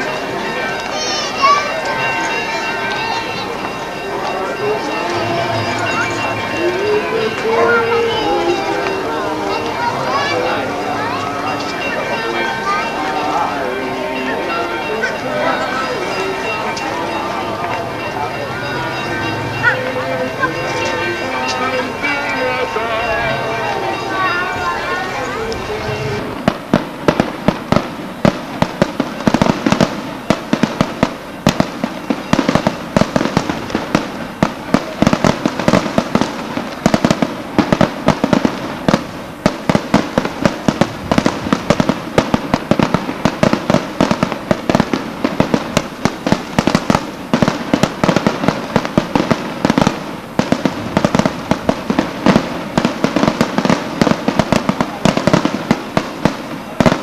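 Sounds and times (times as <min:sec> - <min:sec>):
firecrackers bursting in rapid string: 0:00.0 - 0:57.0.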